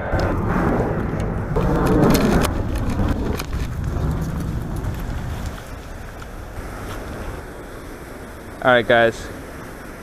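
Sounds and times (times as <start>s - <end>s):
steady outdoor rumble: 0.0s - 10.0s.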